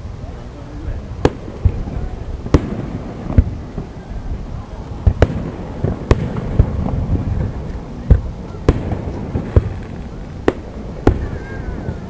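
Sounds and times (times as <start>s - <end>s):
fireworks bangs: 0.0s - 12.0s
low rumble of echoing booms: 1.2s - 12.0s.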